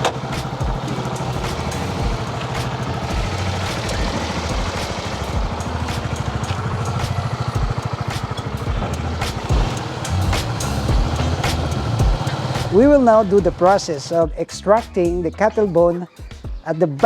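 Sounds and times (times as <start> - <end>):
small engine running: 0.0 - 14.4.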